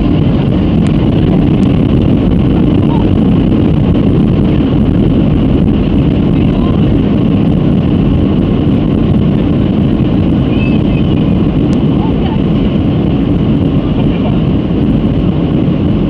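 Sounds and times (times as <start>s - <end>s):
high engine whine: 0.0s - 16.0s
jet engines rumbling: 0.0s - 16.0s.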